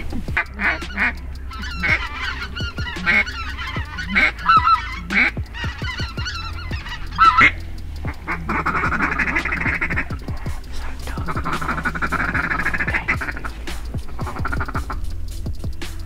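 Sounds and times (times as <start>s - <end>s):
flock of geese honking: 0.0s - 16.0s.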